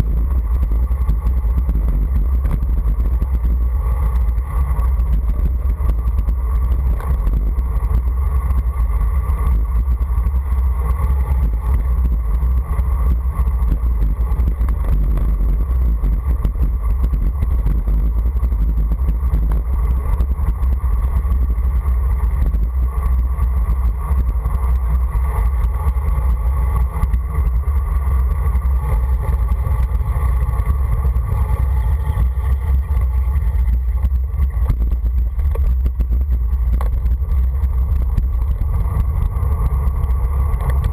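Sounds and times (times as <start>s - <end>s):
road and tyre noise: 0.0s - 40.9s
wind buffeting microphone: 0.0s - 40.9s.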